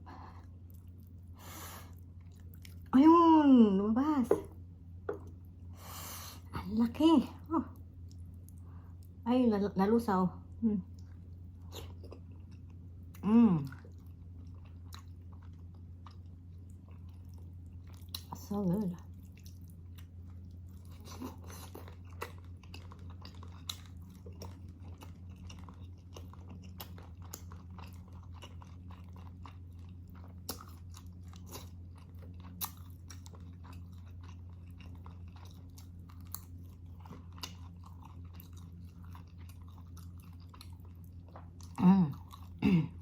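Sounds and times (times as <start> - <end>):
steady low hum: 0.0 - 43.0
close chewing and mouth smacks: 0.3 - 2.9, 7.7 - 9.2, 10.8 - 42.6.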